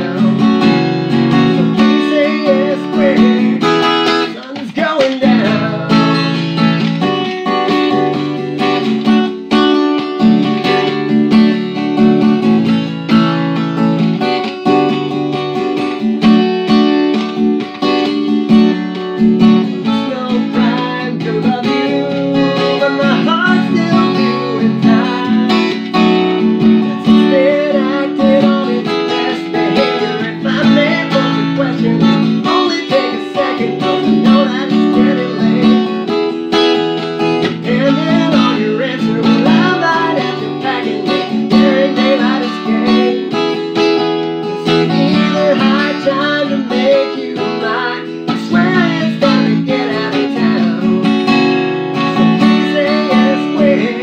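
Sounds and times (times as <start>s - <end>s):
man singing: 0.0s - 11.0s, 19.2s - 54.0s
acoustic guitar strumming: 0.0s - 54.0s.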